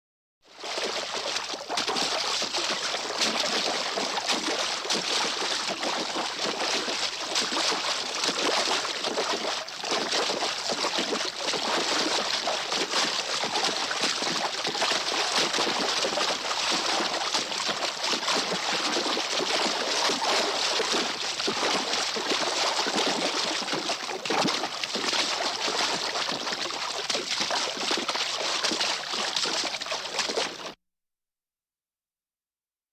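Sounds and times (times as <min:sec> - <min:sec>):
water dripping and trickling: 0:00.5 - 0:30.8
water splashing and sloshing: 0:00.5 - 0:30.8.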